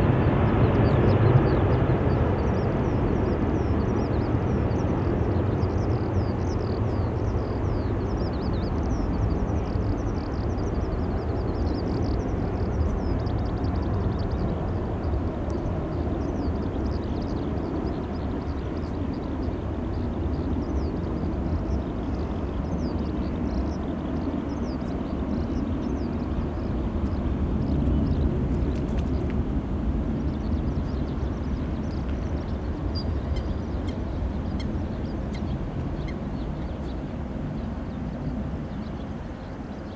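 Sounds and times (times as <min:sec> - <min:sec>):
jet engines rumbling: 0:00.0 - 0:39.9
birds chirping: 0:00.4 - 0:29.2, 0:30.1 - 0:39.9.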